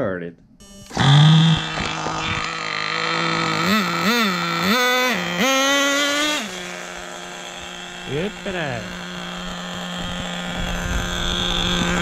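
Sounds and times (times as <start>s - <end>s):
small nitro engine revving: 0.6s - 12.0s.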